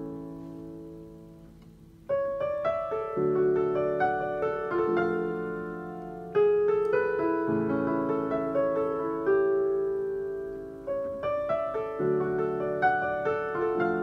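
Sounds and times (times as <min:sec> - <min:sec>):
digital piano slow ballad: 0:00.0 - 0:14.0.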